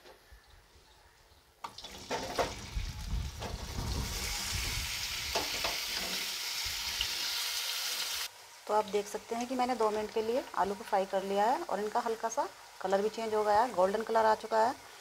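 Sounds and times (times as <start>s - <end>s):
oil sizzling: 1.6s - 15.0s.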